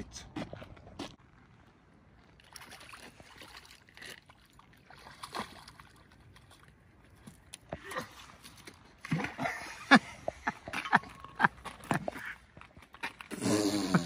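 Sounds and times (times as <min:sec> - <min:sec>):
faint water noise: 0:01.2 - 0:14.0.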